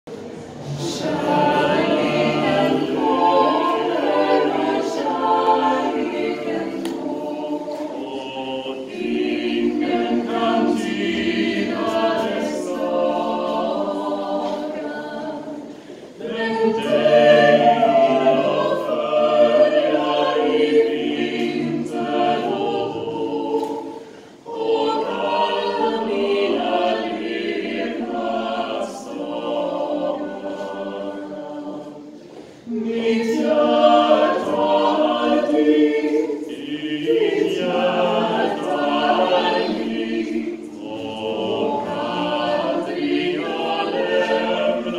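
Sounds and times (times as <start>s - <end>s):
a cappella group singing harmony: 0.1s - 44.9s.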